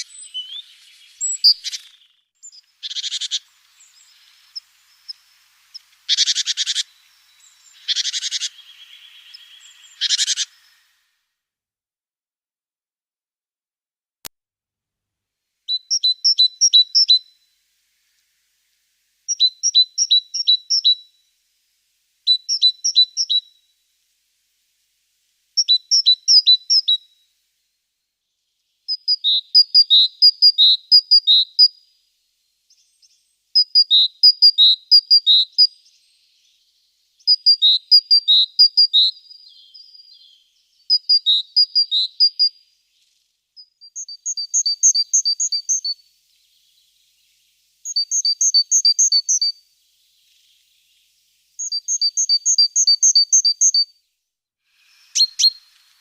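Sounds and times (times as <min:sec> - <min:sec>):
small songbird singing: 0:00.0 - 0:11.2, 0:15.6 - 0:56.0.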